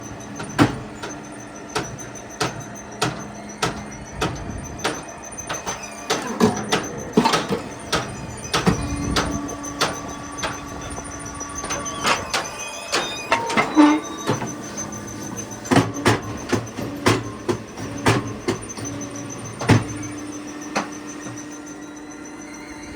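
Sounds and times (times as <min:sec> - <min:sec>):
motor hum: 0:00.0 - 0:22.9.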